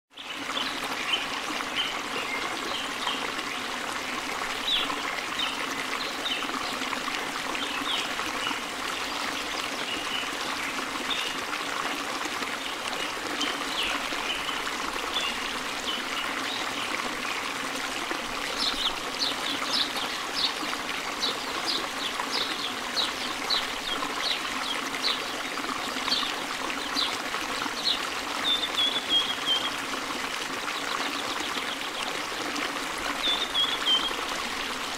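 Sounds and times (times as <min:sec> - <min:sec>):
running water trickling: 0:00.1 - 0:34.9.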